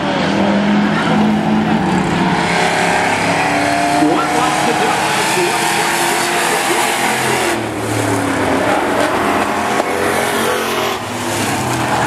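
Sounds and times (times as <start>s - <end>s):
racing truck engines: 0.0s - 12.0s.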